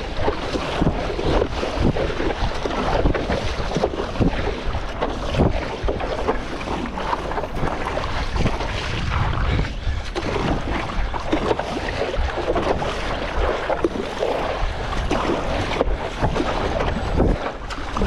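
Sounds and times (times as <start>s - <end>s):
water sloshing and splashing: 0.0s - 18.0s
wind buffeting microphone: 0.0s - 18.0s.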